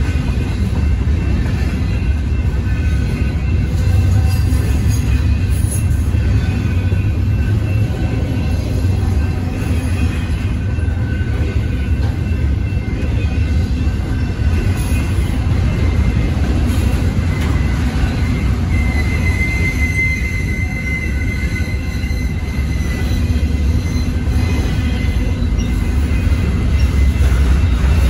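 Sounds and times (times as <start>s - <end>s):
steel wheels rumbling on rail: 0.0s - 28.0s
high wheel squeal: 0.4s - 28.0s.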